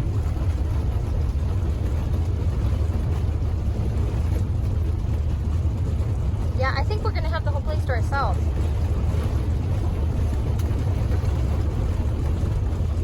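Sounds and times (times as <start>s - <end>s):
van engine and tyre rumble: 0.0s - 13.0s.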